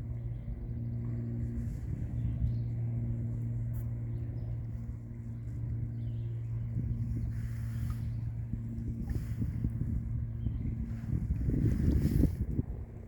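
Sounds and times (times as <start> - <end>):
low mechanical hum: 0.0 - 13.0
low rumble: 0.0 - 13.0.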